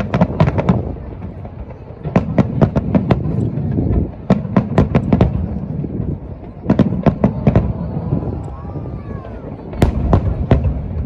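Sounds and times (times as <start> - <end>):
fireworks bursting: 0.0 - 8.6, 9.6 - 11.0.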